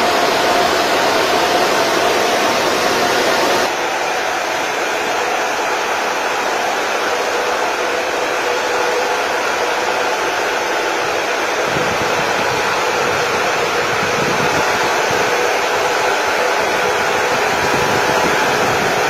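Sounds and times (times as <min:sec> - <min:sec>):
cooling fans whirring: 0:00.0 - 0:19.0.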